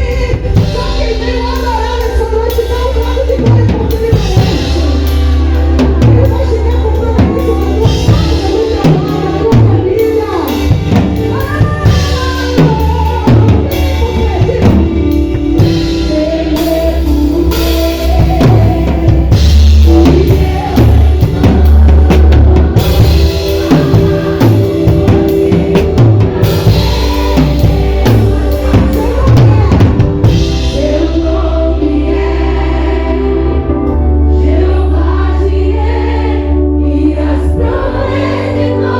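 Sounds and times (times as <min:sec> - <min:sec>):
drum kit playing: 0:00.0 - 0:34.4
person singing: 0:00.0 - 0:38.9.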